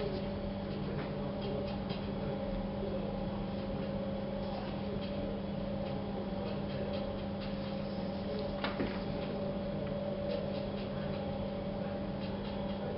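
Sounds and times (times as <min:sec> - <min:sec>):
steady hum: 0:00.0 - 0:12.9.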